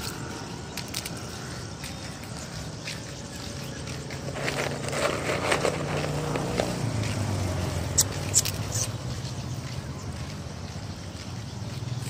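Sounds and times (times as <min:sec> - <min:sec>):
low traffic hum: 0:00.0 - 0:12.0.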